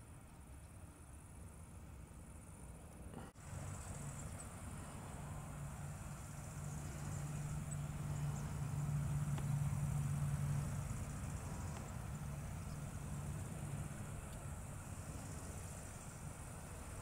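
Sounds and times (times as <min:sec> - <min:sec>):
passing vehicle engine hum: 0:03.1 - 0:17.0.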